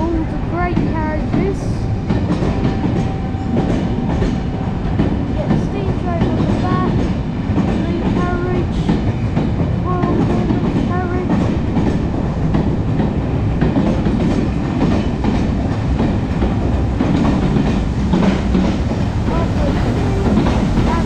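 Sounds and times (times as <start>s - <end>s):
train carriages rumbling: 0.0s - 21.0s.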